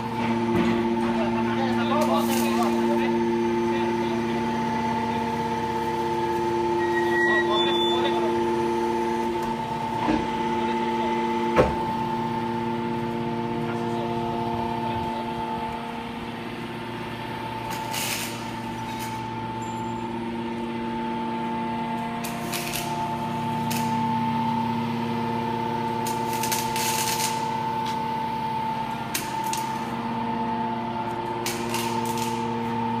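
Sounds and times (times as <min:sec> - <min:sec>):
hydraulic motor and pump whine: 0:00.0 - 0:33.0.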